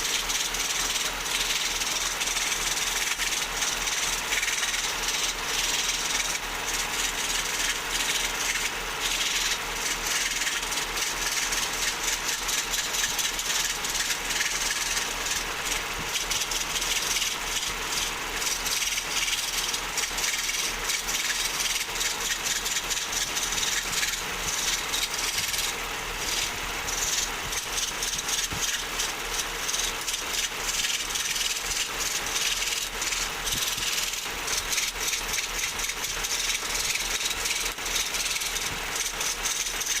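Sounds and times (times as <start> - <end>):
lathe motor hum: 0.0 - 40.0
tool cutting spinning wood: 0.0 - 40.0.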